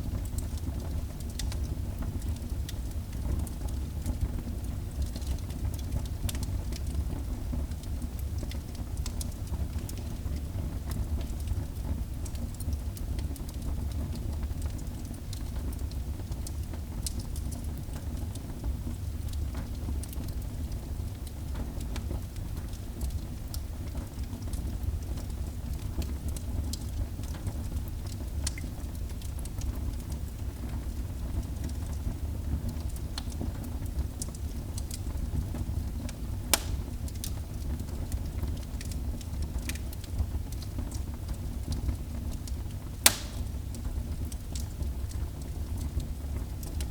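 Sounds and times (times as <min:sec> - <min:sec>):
wood fire crackling in fireplace: 0:00.0 - 0:46.9.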